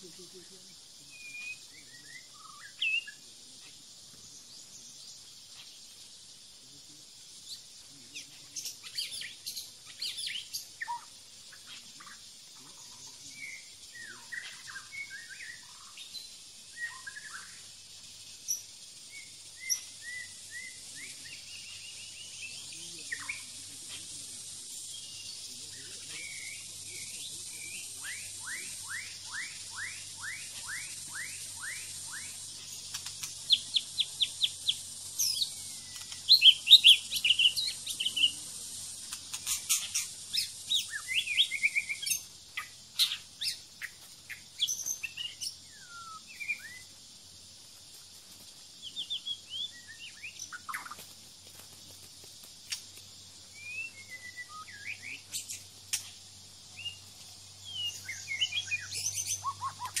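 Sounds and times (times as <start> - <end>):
songbirds whistling and trilling: 0.8 - 60.0.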